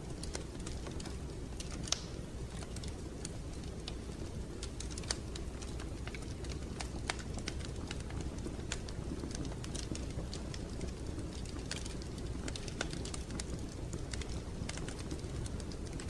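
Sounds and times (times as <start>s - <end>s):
wood fire crackling: 0.0s - 16.0s
fire pops: 0.1s - 16.0s.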